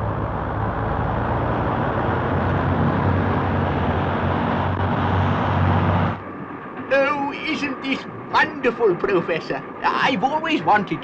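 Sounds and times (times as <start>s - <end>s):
continuous rushing noise: 0.0s - 11.0s
train engine hum: 0.0s - 11.0s.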